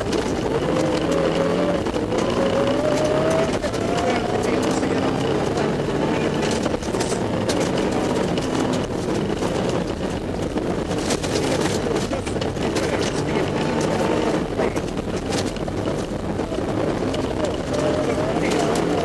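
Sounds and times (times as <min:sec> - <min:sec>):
rally car engine running hard: 0:00.0 - 0:19.0
snow and grit striking car: 0:00.0 - 0:19.0.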